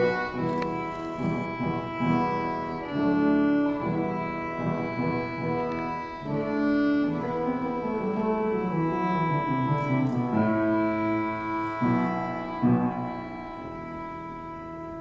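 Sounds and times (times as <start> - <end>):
lower accompaniment: 0.0 - 15.0
violin slow melody: 0.0 - 15.0.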